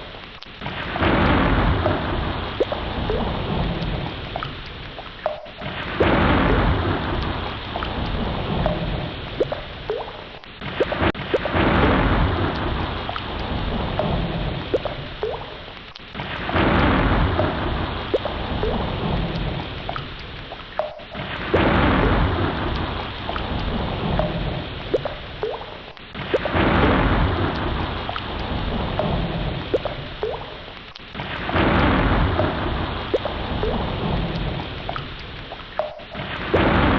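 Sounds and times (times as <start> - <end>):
rushing ocean water: 0.0 - 36.9
bubbly chirps: 0.6 - 11.8, 12.9 - 13.4, 14.0 - 19.1, 19.7 - 26.8, 29.0 - 31.6, 32.3 - 34.0, 34.8 - 36.8.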